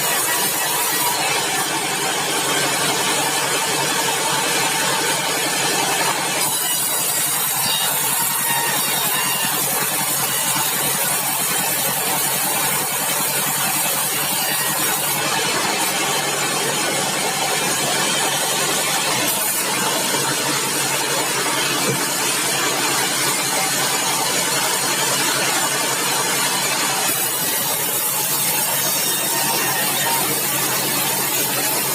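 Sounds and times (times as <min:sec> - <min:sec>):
sawmill engine running: 0:00.0 - 0:31.9.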